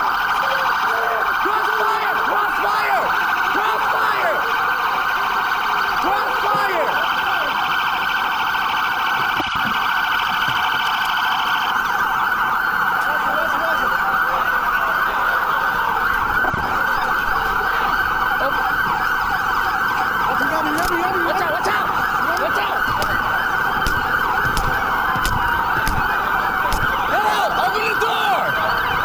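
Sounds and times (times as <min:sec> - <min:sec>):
fast-pulsing siren tone: 0:00.0 - 0:29.0
police sirens wailing: 0:00.0 - 0:29.0.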